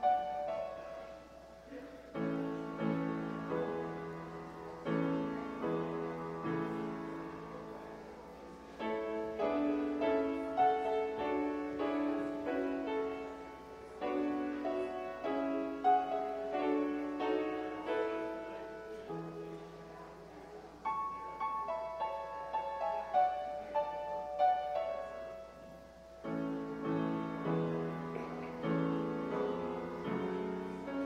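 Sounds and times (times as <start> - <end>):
grand piano chords: 0.0 - 31.0.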